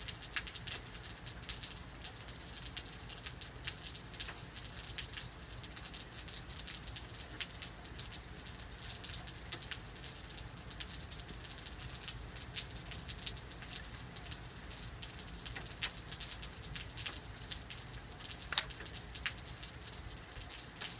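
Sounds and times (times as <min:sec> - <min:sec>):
drops and drips ticking: 0:00.0 - 0:20.9
steady rain falling: 0:00.0 - 0:20.9.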